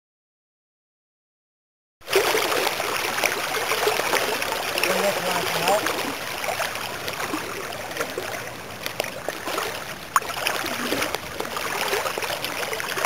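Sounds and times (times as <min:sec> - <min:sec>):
creek water rushing over riffle: 0:02.0 - 0:13.0.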